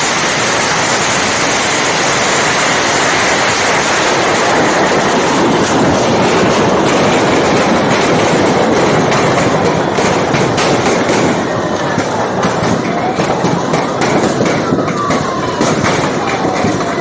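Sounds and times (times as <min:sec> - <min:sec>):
fire crackling pops: 0:00.0 - 0:17.0
fire roaring: 0:00.0 - 0:17.0.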